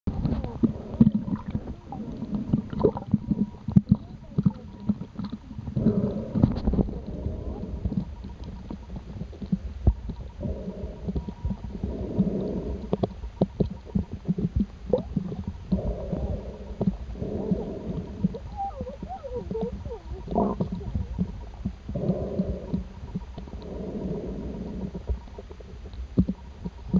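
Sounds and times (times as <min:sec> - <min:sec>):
muffled underwater water rumble: 0:00.0 - 0:26.9
small underwater clicks and knocks: 0:00.1 - 0:26.9.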